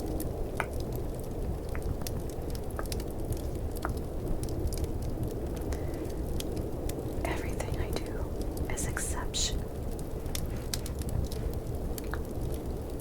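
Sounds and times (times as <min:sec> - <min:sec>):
fire crackling and popping: 0:00.0 - 0:13.0
snowstorm wind rumble: 0:00.0 - 0:13.0.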